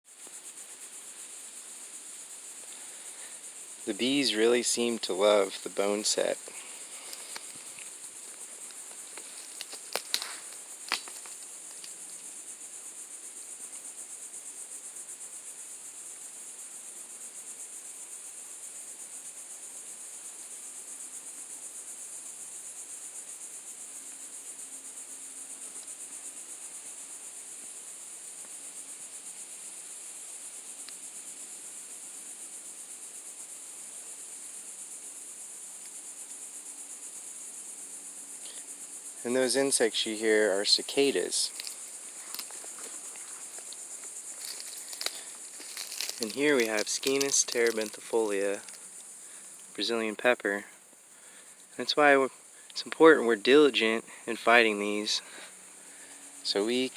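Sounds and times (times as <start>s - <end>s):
cicadas buzzing: 0.1s - 56.9s.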